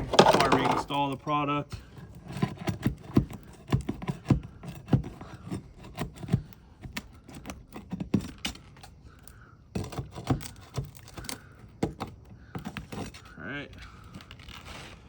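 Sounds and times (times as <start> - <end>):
roofing tools knocking and scraping: 0.0 - 8.9, 9.7 - 13.3.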